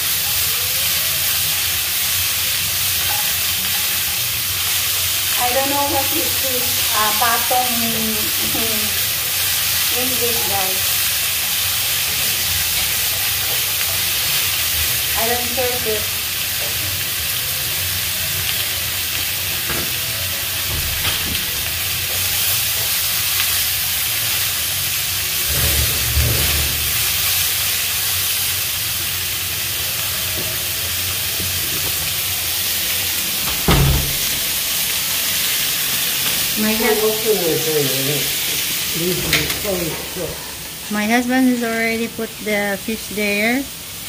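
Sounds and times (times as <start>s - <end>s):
vegetables sizzling in a wok: 0.0s - 44.0s.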